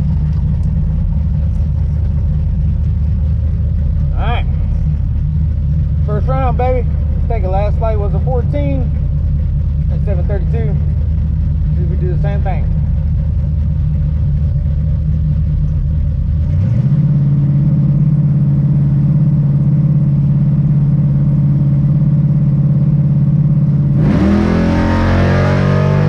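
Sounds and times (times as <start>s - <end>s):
car engine running loud: 0.0s - 26.0s.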